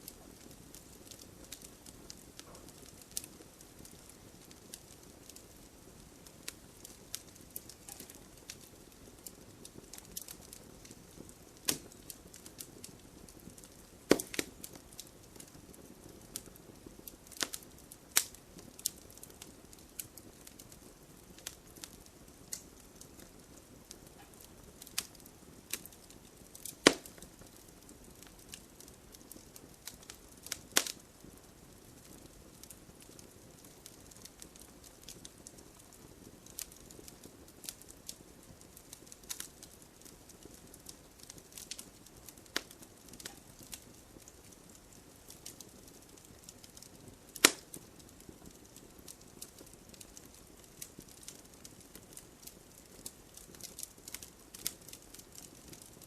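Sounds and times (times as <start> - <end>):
campfire crackling: 0.0 - 56.0
low steady hiss: 0.0 - 56.0.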